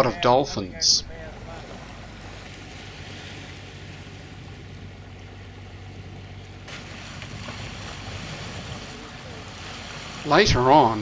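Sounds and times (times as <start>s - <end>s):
low engine hum: 0.0s - 11.0s
water rushing along boat hull: 0.0s - 11.0s.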